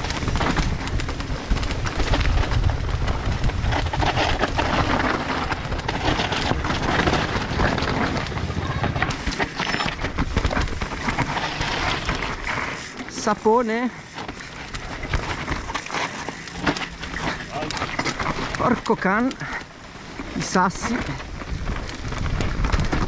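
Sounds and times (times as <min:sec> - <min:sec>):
bike clattering over bumps: 0:00.0 - 0:23.0
bike tyres crunching over dirt: 0:00.0 - 0:23.0.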